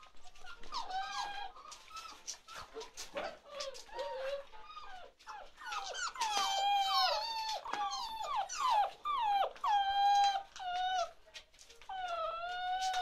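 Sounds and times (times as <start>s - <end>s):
puppies whining: 0.0s - 13.0s.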